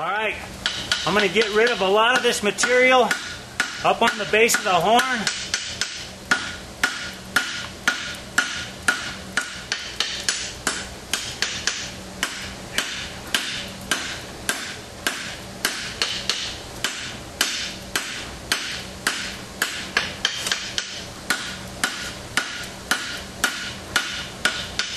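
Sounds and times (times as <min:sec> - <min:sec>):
hammer striking steel on anvil: 0:00.6 - 0:24.9.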